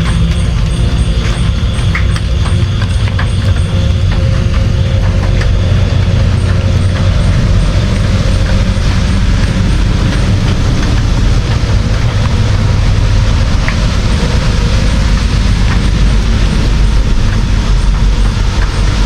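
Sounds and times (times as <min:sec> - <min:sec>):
deep continuous rumble: 0:00.0 - 0:19.0
heavy rain: 0:00.0 - 0:19.0
raindrops ticking: 0:00.0 - 0:19.0.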